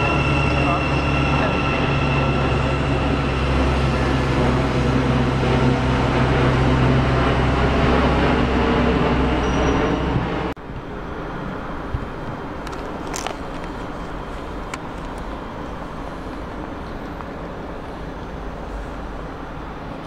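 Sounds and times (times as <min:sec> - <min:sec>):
passing train hum: 0:00.0 - 0:20.0
railway station background noise: 0:00.0 - 0:20.0.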